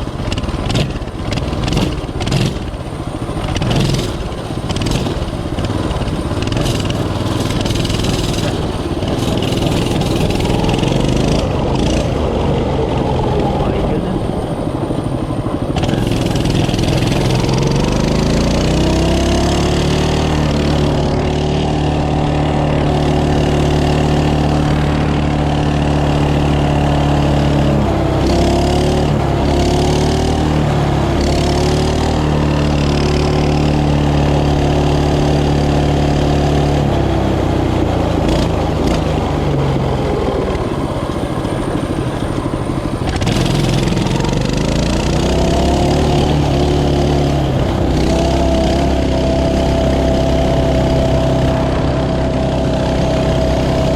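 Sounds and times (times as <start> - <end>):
mini bike engine running: 0.0 - 53.9.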